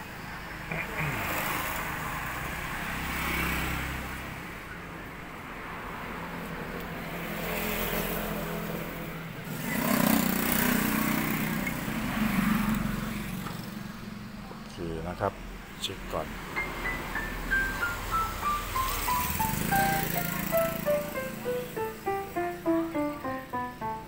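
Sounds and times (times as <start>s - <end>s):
passing road traffic: 0.0s - 24.0s
vehicle passing by: 0.5s - 24.0s.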